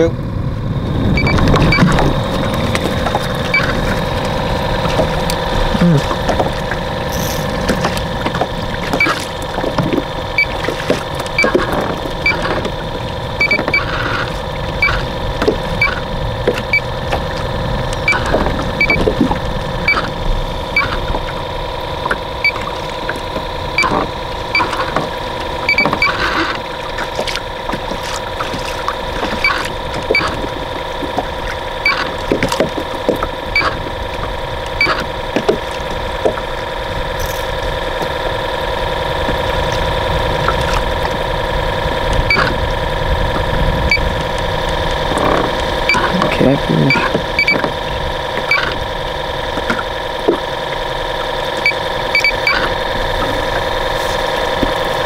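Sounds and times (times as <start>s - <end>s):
boat motor whining: 0.0s - 55.0s.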